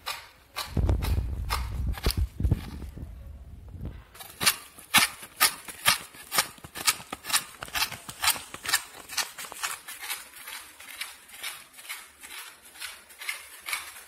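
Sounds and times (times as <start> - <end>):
knife scraping coconut meat: 0.0 - 2.8, 4.2 - 14.0.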